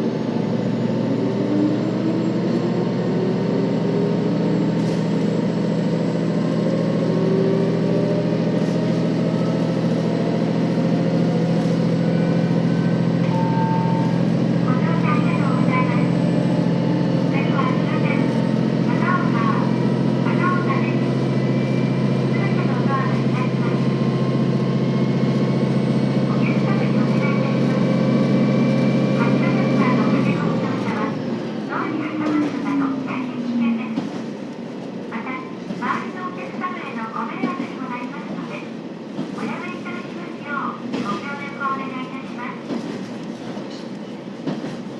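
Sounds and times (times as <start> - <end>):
diesel engine drone: 0.0 - 43.4
train running noise: 0.0 - 44.9.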